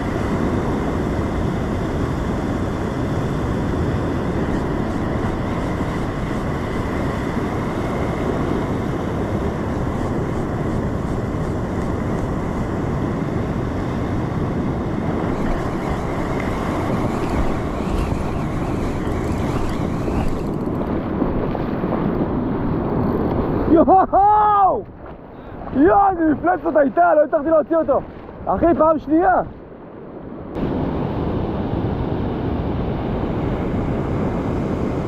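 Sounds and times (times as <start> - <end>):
surf breaking over rocks: 0.0 - 29.4
wind buffeting microphone: 0.0 - 35.0.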